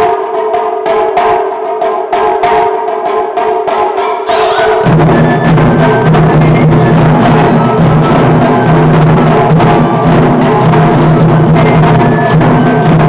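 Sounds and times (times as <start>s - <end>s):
taiko drums playing: 0.0s - 13.0s.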